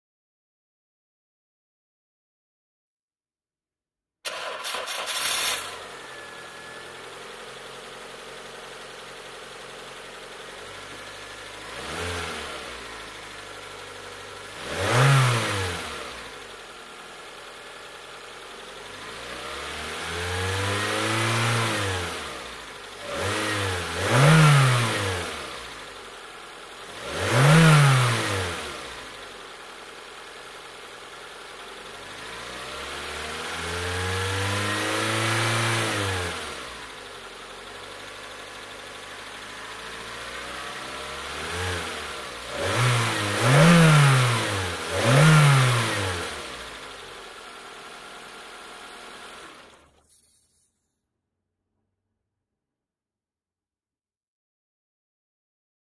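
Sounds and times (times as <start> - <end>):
car engine idling and revving: 4.3 - 50.2.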